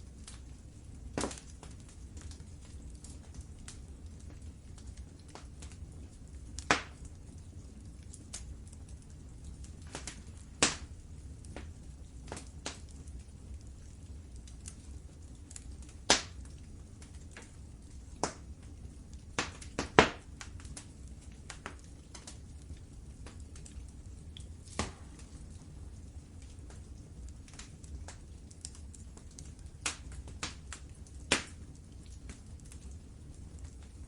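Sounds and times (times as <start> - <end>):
fire crackling in fireplace: 0.0 - 34.0.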